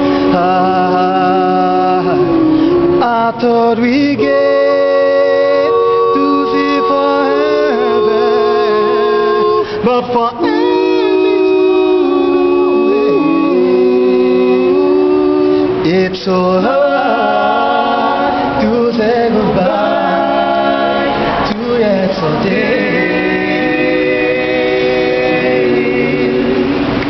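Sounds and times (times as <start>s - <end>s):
male vocal group singing: 0.0s - 27.0s.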